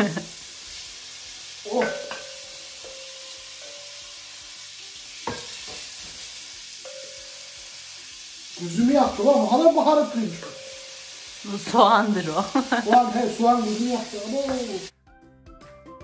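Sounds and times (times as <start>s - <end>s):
chicken sizzling in frying pan: 0.0s - 14.9s.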